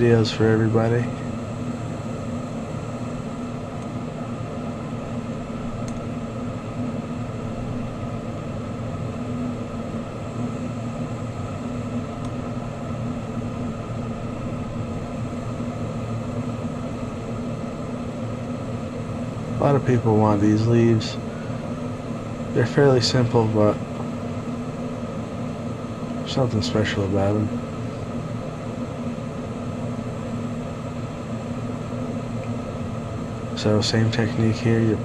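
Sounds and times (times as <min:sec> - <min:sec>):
low even hum: 0:00.0 - 0:35.0.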